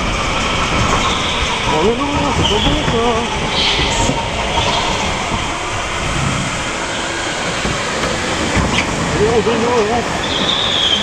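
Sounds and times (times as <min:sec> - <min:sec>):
kart motor rumbling: 0:00.0 - 0:11.0
wind buffeting microphone: 0:00.0 - 0:11.0.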